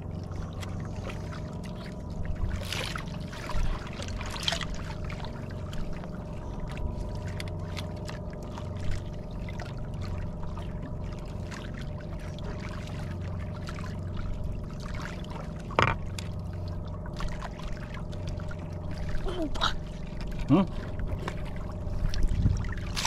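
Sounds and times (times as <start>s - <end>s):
steady low hum: 0.0s - 23.0s
water sloshing against boat: 0.0s - 23.0s.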